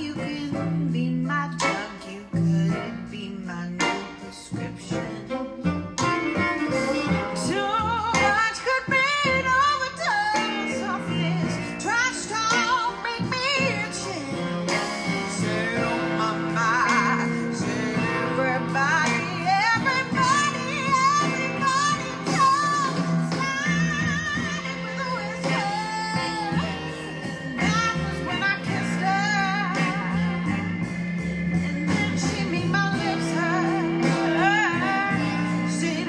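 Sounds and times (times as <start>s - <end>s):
pop song with singing: 0.0s - 36.0s.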